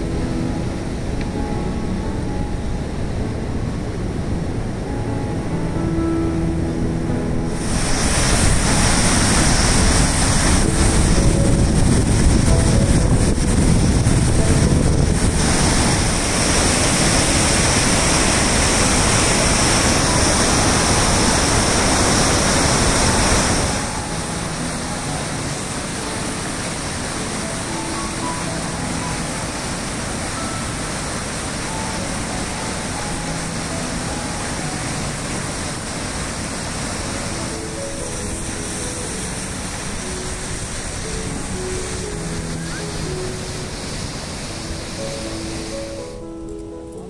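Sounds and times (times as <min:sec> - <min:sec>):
water rushing over a waterfall: 0:00.0 - 0:46.8.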